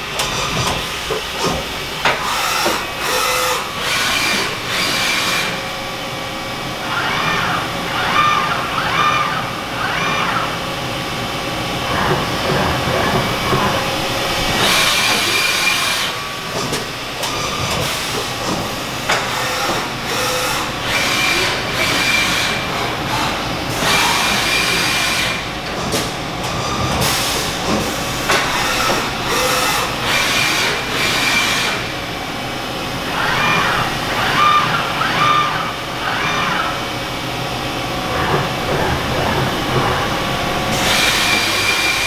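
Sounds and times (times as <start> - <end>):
cnc machine running: 0.0 - 42.0.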